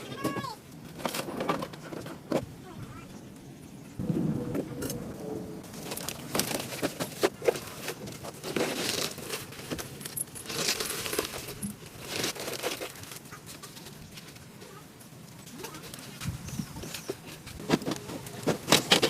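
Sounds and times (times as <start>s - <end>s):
crinkling and scraping: 0.0s - 3.0s, 4.4s - 19.0s.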